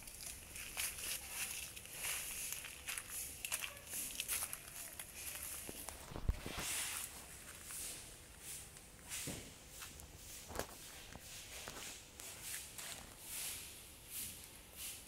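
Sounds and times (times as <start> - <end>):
soft scuffing steps: 0.0 - 13.2
rustling: 0.0 - 13.6.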